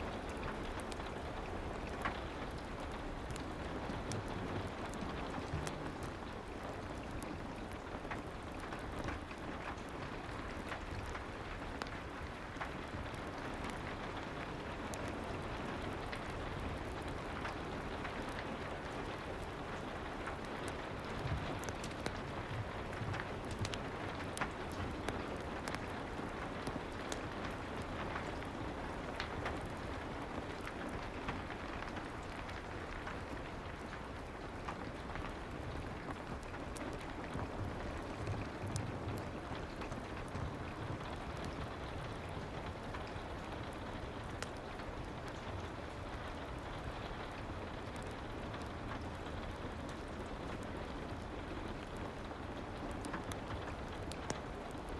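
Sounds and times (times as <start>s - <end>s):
soft rain falling: 0.0s - 54.9s
fireplace crackling: 0.1s - 54.9s.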